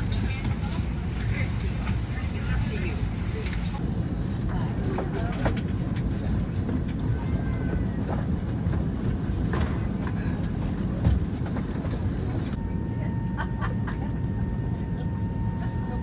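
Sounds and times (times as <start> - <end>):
cabin air conditioning rumble: 0.0 - 16.0
faint passenger voices: 0.0 - 16.0.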